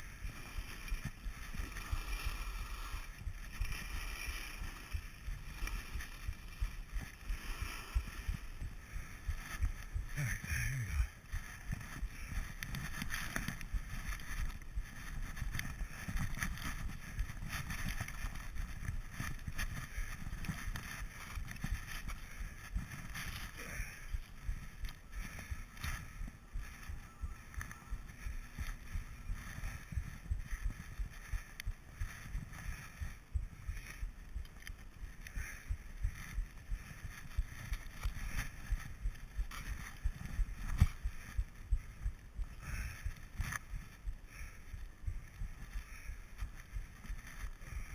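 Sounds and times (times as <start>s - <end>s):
skis running through powder snow: 0.0s - 47.9s.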